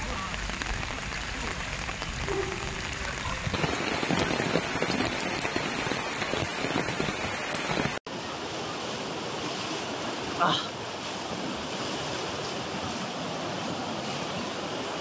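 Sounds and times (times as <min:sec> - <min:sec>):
torrential rain splashing: 0:00.0 - 0:15.0.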